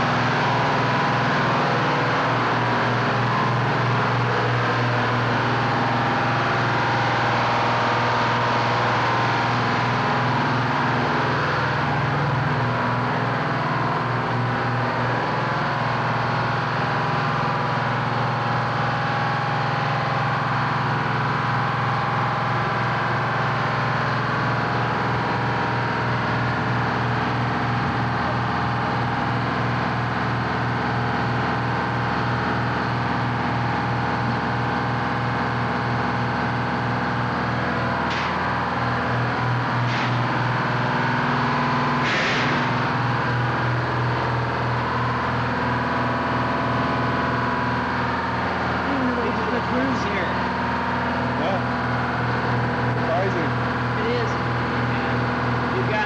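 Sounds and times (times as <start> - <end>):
engine room machinery humming: 0.0 - 56.0.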